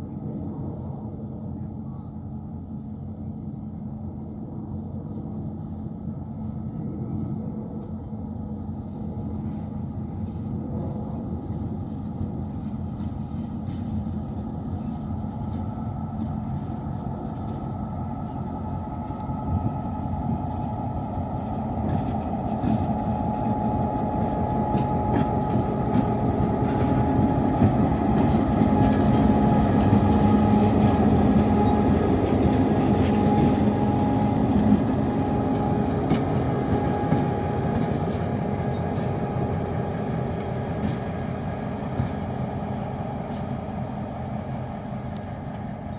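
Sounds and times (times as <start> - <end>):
train engine: 0.0 - 45.9
rumbling wheels on rails: 3.8 - 45.9.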